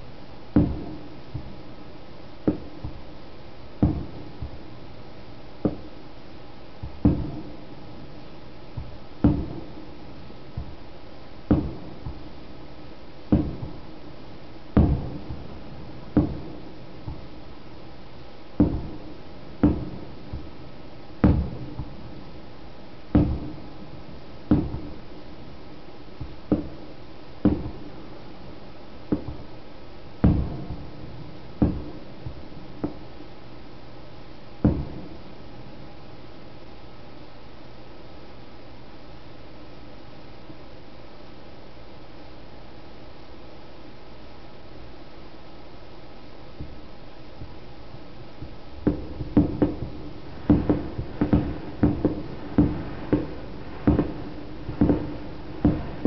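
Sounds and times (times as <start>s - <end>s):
fireworks bursting with echo: 0.0s - 37.8s, 45.5s - 56.0s.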